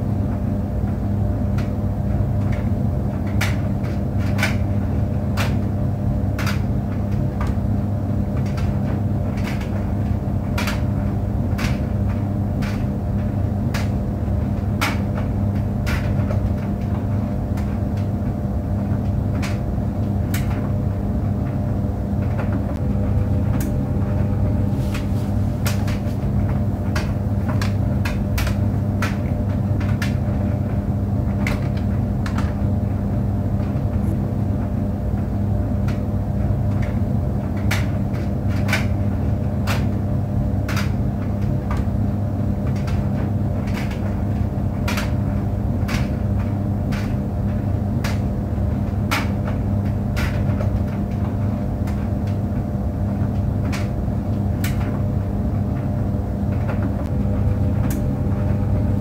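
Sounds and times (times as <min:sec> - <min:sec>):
clothes dryer humming: 0:00.0 - 0:59.0.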